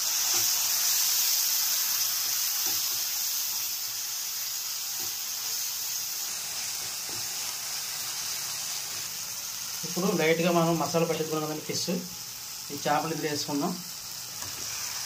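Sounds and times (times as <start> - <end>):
masala sizzling in hot oil: 0.0 - 15.0.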